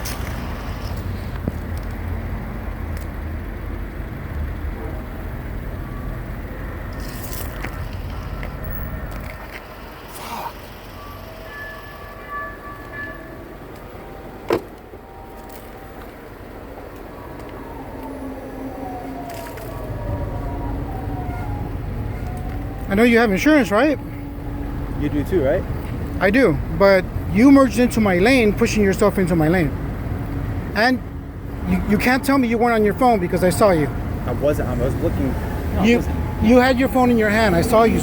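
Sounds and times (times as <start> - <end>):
car rumbling on road: 0.0 - 38.0.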